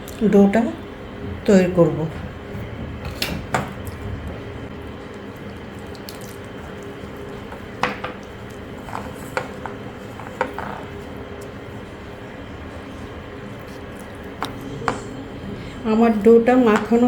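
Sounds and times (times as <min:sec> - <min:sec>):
steady low hum: 0:00.0 - 0:17.0
dough squishing by hand: 0:01.4 - 0:15.1.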